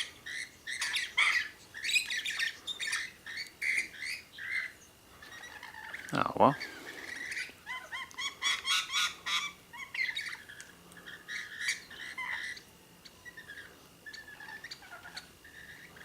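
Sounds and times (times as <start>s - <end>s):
birds squawking and chirping: 0.0s - 16.0s.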